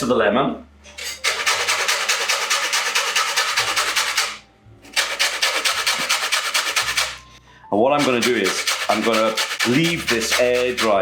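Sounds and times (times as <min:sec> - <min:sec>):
zest grated on a fine grater: 0:01.2 - 0:07.2, 0:08.0 - 0:11.0.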